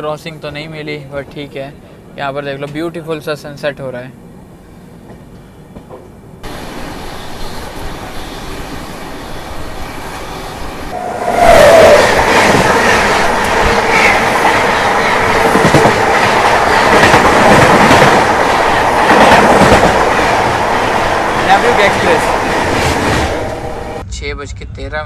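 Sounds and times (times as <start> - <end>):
passing train rush and wheel clatter: 0.0 - 24.0
passenger train running: 0.0 - 24.1.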